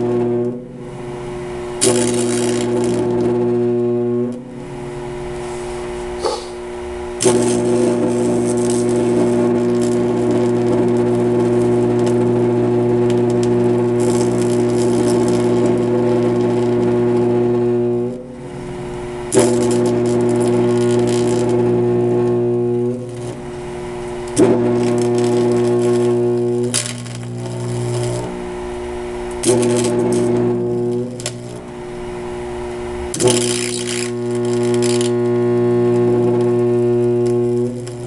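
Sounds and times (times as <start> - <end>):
electric arc buzzing: 0.0 - 38.0.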